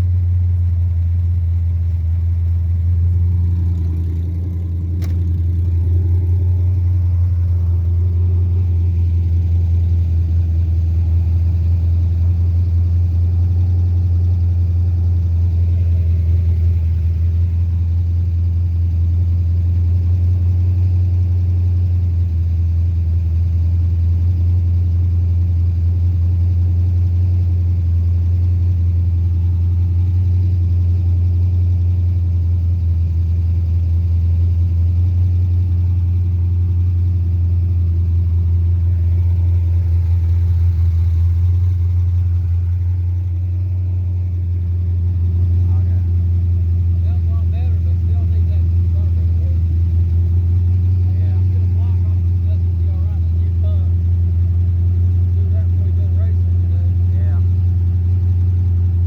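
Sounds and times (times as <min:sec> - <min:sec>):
engine running at fast idle: 0:00.0 - 0:59.0.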